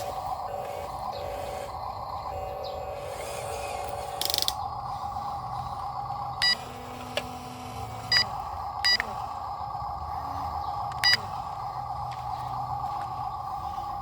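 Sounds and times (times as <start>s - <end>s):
truck engine whine and hum: 0.0s - 14.0s.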